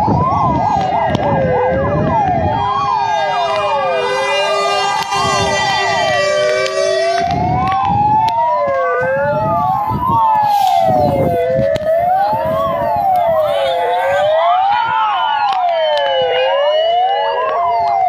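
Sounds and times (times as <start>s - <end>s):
fire engine sirens wailing: 0.0s - 18.0s.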